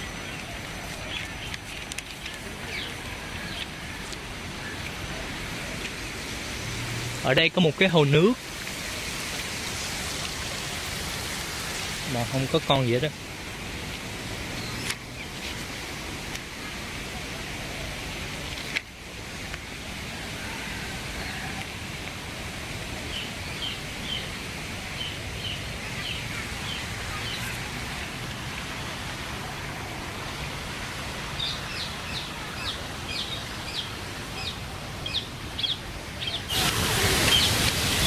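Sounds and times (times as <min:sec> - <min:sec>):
background hiss: 0:00.0 - 0:38.0.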